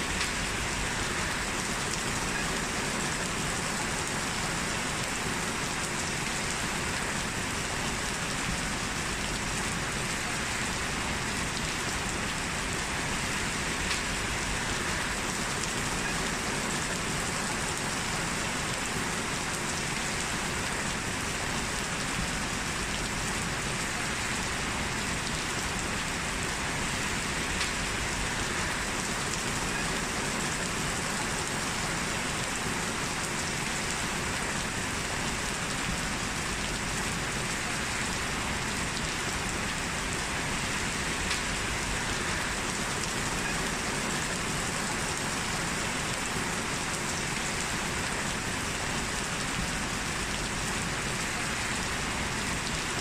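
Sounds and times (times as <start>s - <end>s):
steady rain with dripping patter: 0.0s - 53.0s.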